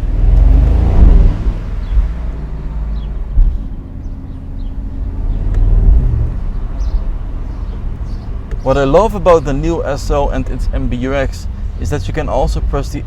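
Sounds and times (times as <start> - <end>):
car engine and exhaust rumbling: 0.0 - 13.0
exhaust crack: 0.0 - 13.0.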